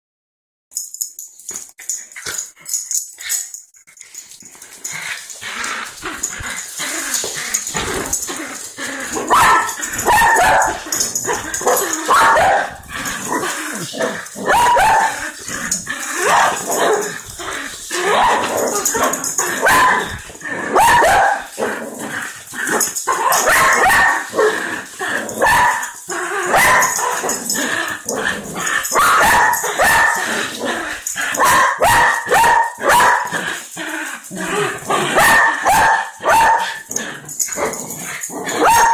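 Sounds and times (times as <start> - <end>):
claws scrabbling on tile floor: 0.8 - 36.0
small dogs barking and yipping: 5.9 - 21.6, 22.6 - 24.6, 25.2 - 38.9.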